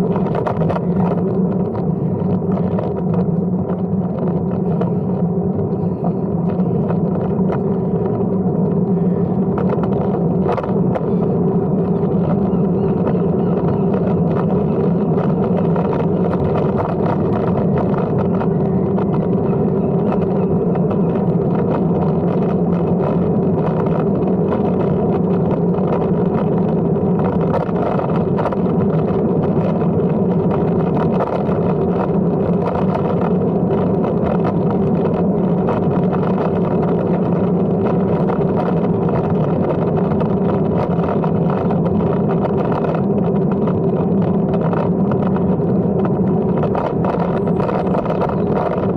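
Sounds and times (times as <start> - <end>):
bicycle tyre hum: 0.0 - 48.9
rushing air: 0.0 - 48.9.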